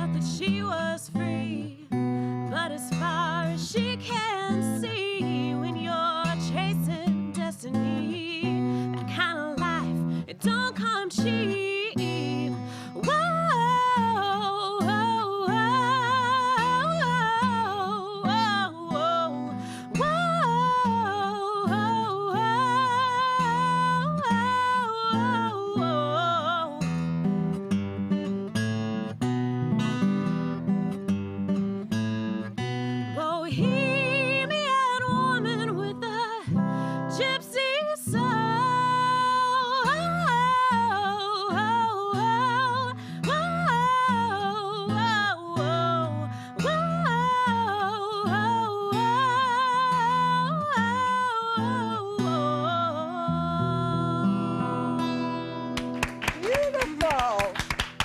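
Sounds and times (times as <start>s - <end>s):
woman singing folk song: 0.0s - 55.8s
acoustic guitar strumming: 0.0s - 56.2s.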